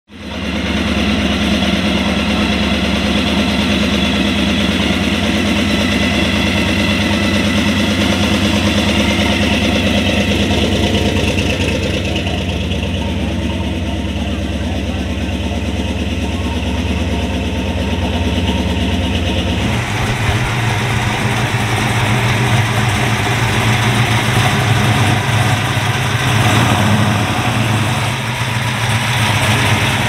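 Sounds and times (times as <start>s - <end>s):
car engine exhaust pulsing: 0.1s - 30.0s.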